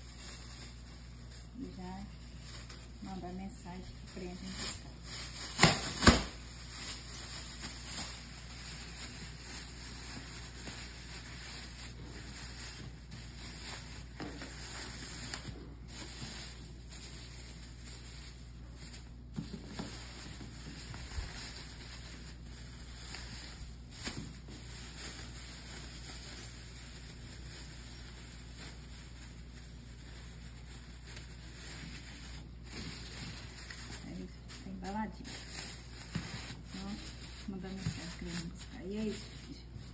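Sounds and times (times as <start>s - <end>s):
plastic bag rustling and crinkling: 0.0s - 39.9s.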